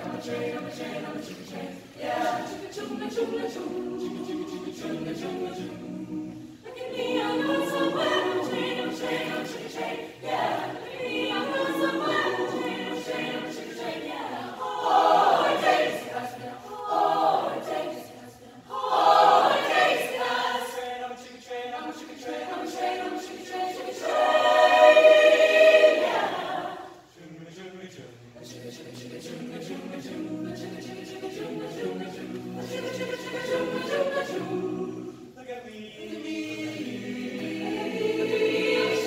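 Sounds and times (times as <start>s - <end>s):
choir singing in parts: 0.0s - 27.2s, 28.4s - 39.0s.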